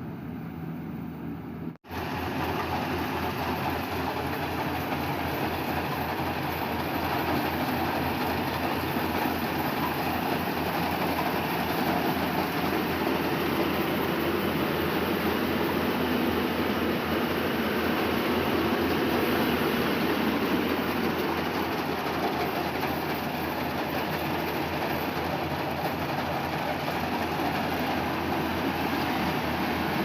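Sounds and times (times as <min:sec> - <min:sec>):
harvesting machine engine running: 0:01.9 - 0:30.0.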